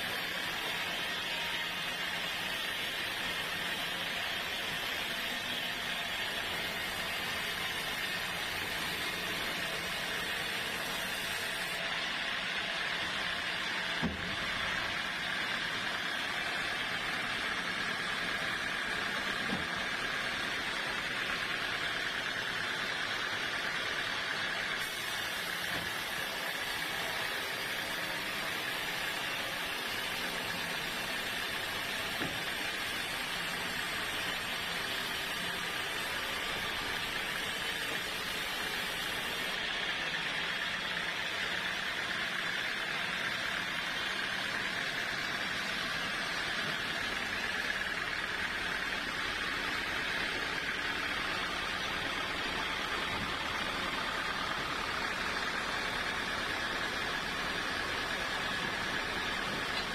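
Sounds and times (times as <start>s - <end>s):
sawmill saw whining: 0.0s - 59.9s.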